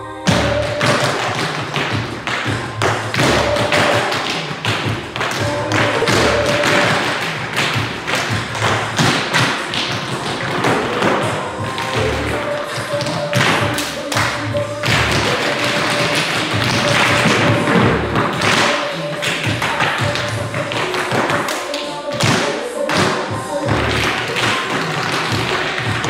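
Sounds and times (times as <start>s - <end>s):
recorded music: 0.0s - 26.0s.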